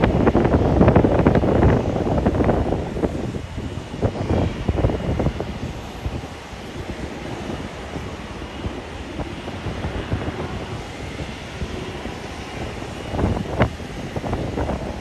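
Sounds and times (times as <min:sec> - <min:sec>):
distant jet engines whine: 0:00.0 - 0:15.0
wind buffeting microphone: 0:00.0 - 0:15.0.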